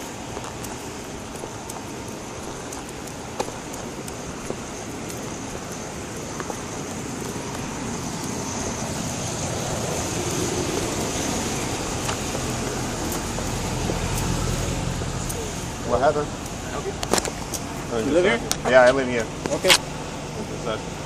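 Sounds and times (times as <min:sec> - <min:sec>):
low engine hum: 0:00.0 - 0:21.0
street traffic: 0:00.0 - 0:21.0.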